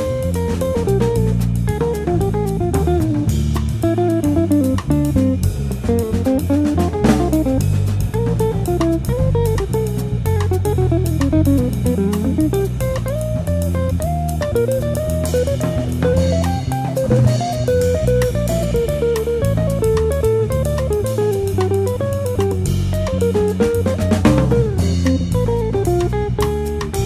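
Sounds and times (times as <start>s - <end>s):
bass: 0.0s - 27.0s
drum kit beat: 0.0s - 27.0s
guitar melody: 0.0s - 27.0s.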